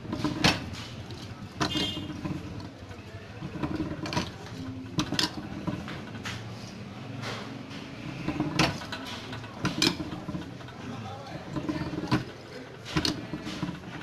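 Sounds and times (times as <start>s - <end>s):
metal juice press clanking: 0.0s - 6.6s, 7.8s - 14.0s.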